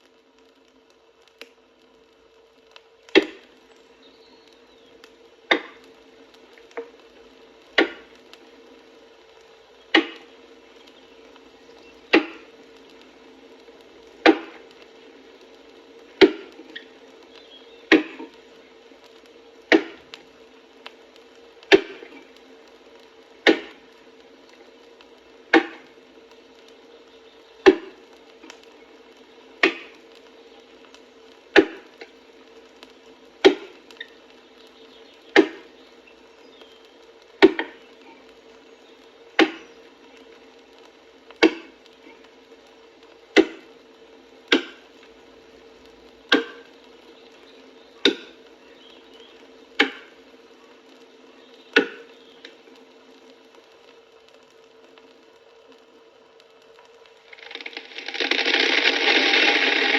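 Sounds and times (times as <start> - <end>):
record hiss and hum: 0.0 - 59.9.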